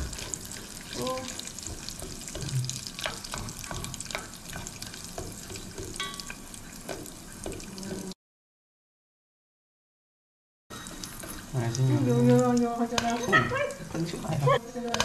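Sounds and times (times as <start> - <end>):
wooden spoon scraping pot: 0.0 - 8.1, 10.8 - 15.0
corn kernels sizzling in oil: 0.0 - 8.2, 10.7 - 15.0.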